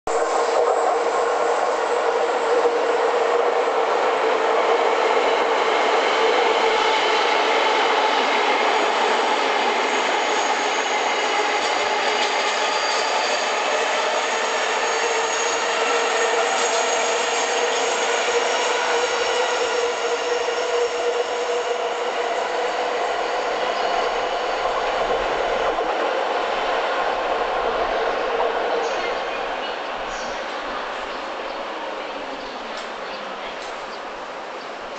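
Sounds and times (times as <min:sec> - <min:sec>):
train wheels on rails: 0:00.1 - 0:34.9.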